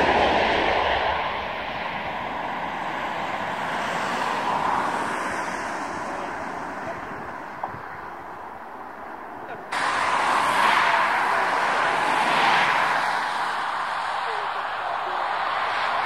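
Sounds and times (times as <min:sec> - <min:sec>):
fighter jet engine roar: 0:00.0 - 0:16.0.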